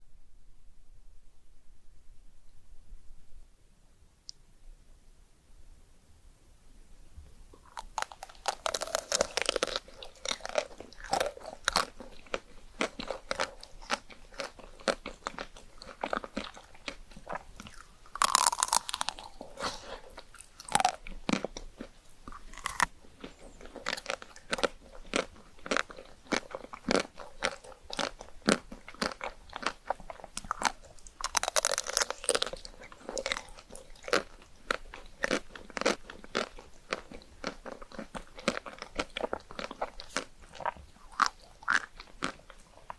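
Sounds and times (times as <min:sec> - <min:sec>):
crunchy bites: 0:07.6 - 0:42.9
wet chewing clicks: 0:07.6 - 0:42.9.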